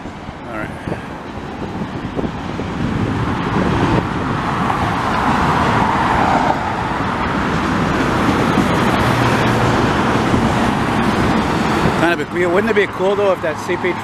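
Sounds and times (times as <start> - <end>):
highway traffic passing: 0.0 - 14.0.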